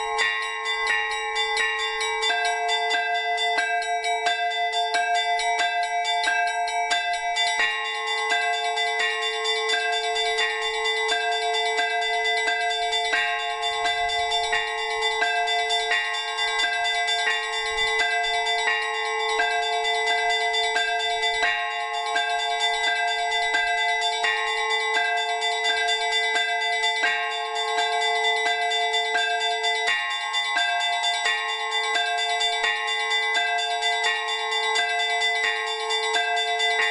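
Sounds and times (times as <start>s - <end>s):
hum of large bells: 0.0s - 36.9s
small church bells struck: 0.0s - 36.9s.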